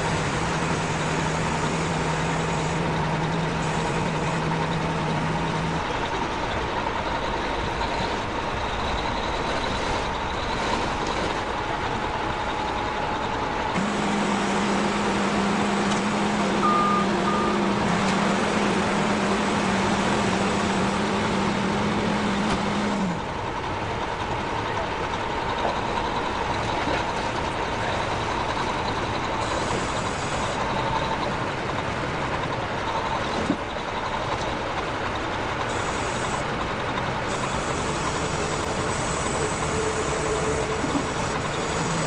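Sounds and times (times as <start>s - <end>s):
heavy truck engine running: 0.0s - 42.0s.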